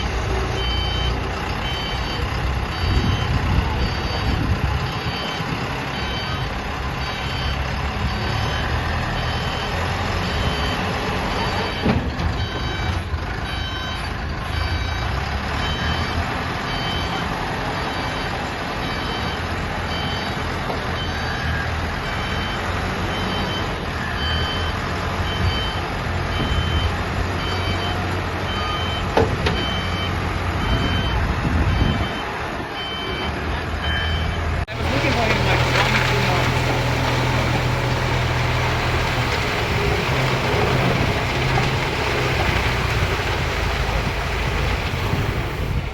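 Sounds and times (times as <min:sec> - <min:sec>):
concrete mixer engine rumbling: 0:00.0 - 0:33.0, 0:33.6 - 0:45.9
reversing alarm beeping: 0:00.5 - 0:44.7.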